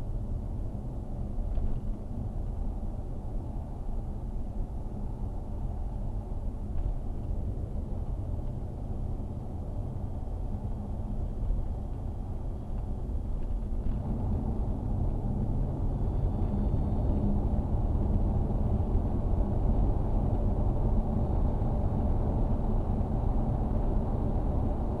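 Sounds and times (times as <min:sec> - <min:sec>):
road and engine rumble inside car: 0:00.0 - 0:25.0.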